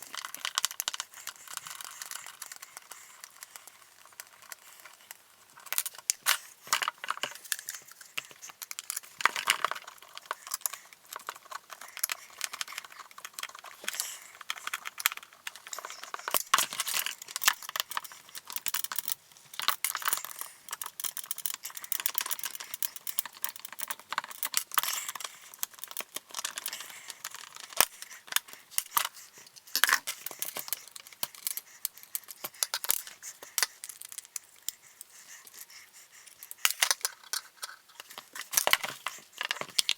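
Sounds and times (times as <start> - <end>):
plastic and metal parts rattling: 5.6 - 34.4, 36.6 - 39.9.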